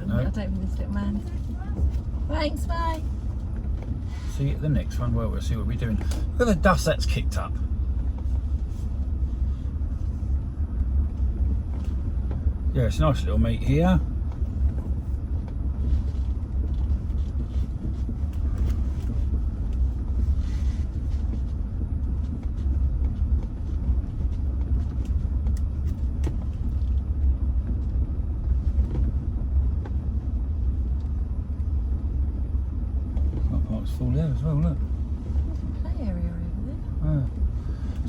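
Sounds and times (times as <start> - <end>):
car engine rumble inside cabin: 0.0 - 38.0.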